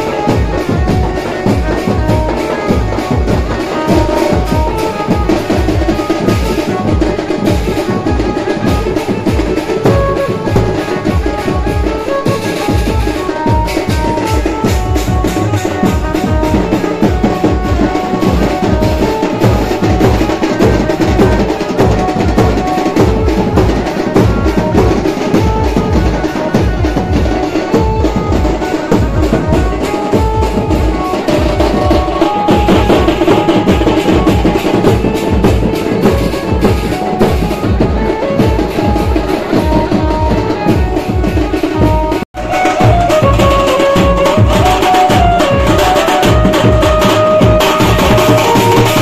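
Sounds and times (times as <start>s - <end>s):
band drumming fast: 0.0s - 49.0s
melody of short held notes: 0.0s - 49.0s.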